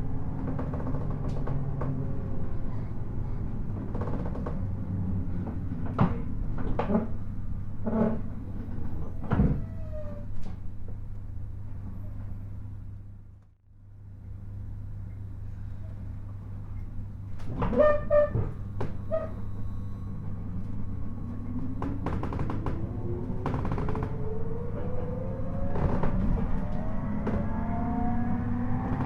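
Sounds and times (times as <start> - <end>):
train transformer hum: 0.0 - 29.0.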